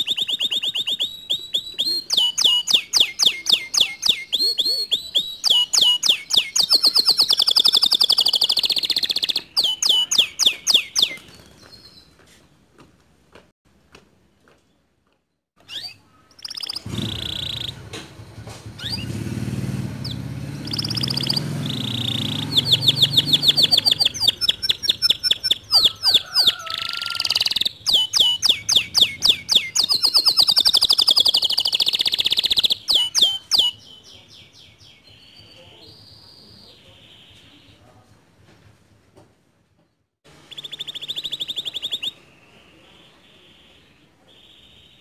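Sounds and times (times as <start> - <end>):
canary singing trills: 0.0 - 12.2, 15.6 - 17.9, 18.8 - 37.9, 40.3 - 45.0
faint bird chirps: 0.0 - 12.2, 15.6 - 17.8, 20.0 - 38.0, 40.4 - 45.0.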